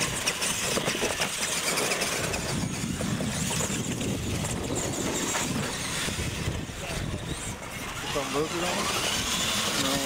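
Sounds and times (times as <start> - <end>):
toy truck motors running: 0.0 - 10.0
tyres rolling on pavement: 0.0 - 10.0.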